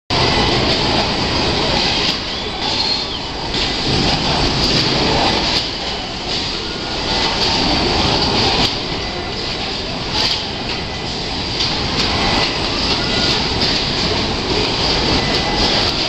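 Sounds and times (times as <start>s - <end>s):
assembly line machine noise: 0.1s - 16.0s.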